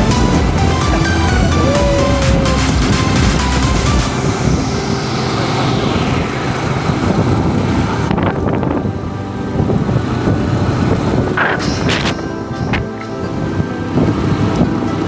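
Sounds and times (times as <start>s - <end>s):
faint music: 0.0s - 15.0s
wind rushing over microphone: 0.0s - 15.0s.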